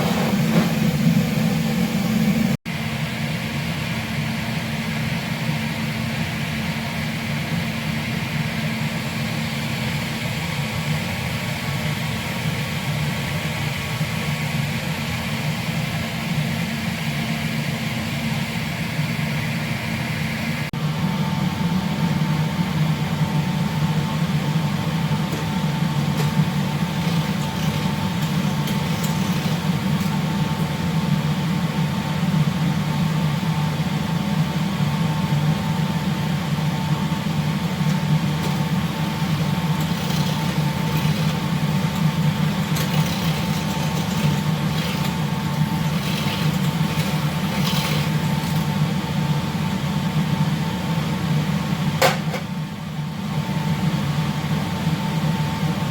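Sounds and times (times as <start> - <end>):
low machinery drone: 0.0 - 55.9
thin steady whine: 0.0 - 55.9.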